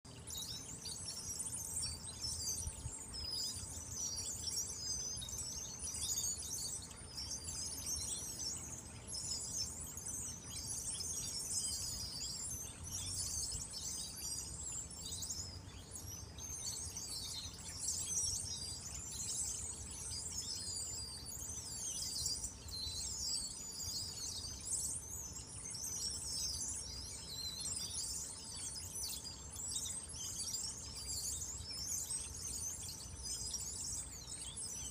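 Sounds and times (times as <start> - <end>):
small birds twittering: 0.0 - 34.9.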